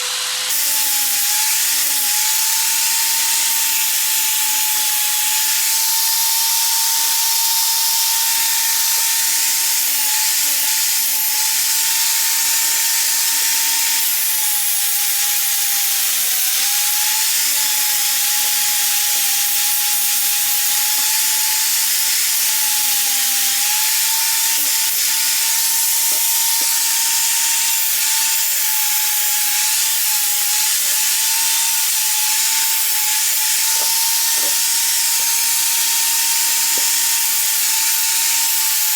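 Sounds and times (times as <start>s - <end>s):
electric drill sanding metal: 0.0s - 38.9s.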